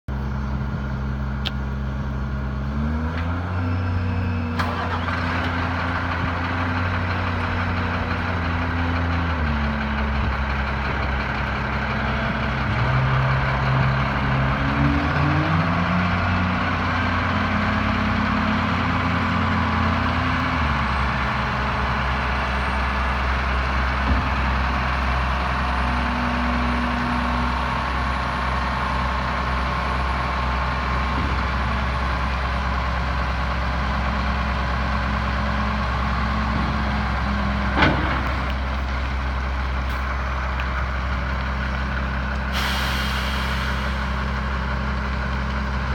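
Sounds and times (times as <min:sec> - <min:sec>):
diesel truck engine idling and revving: 0:00.1 - 0:45.9.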